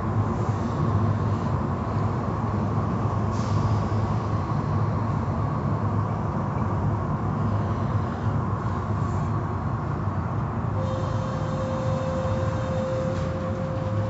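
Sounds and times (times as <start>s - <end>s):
car wash machinery rumble: 0.0s - 14.0s.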